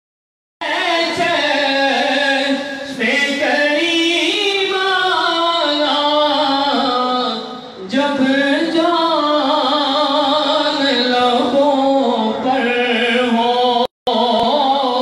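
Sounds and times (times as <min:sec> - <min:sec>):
man chanting: 0:00.6 - 0:15.0.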